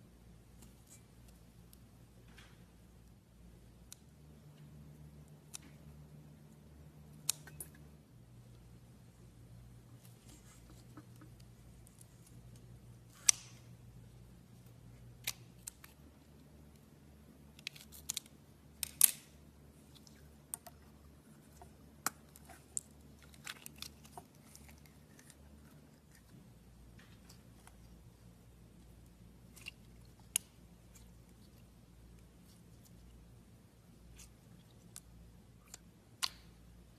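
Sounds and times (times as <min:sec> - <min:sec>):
faint low hum: 0:00.0 - 0:36.9.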